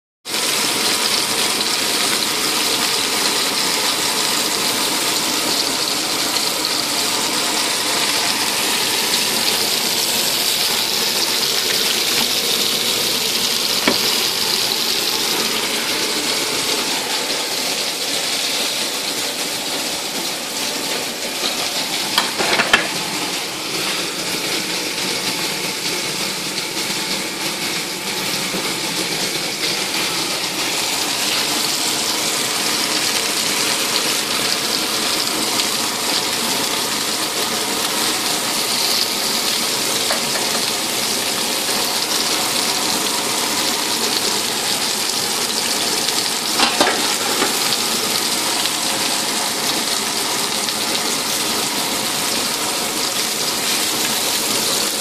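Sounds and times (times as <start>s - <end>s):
vegetables sizzling in a frying pan: 0.2s - 55.0s.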